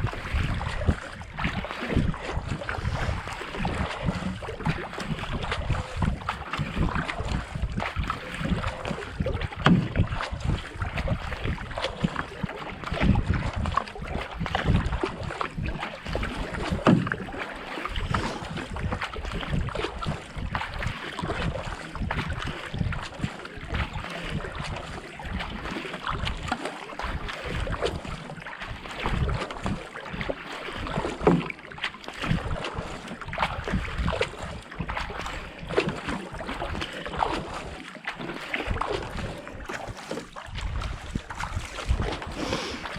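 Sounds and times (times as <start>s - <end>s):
wind buffeting microphone: 0.0s - 28.2s, 33.2s - 37.5s, 38.6s - 42.9s
kayak paddles splashing: 0.0s - 42.9s
water rushing along hull: 0.0s - 42.9s.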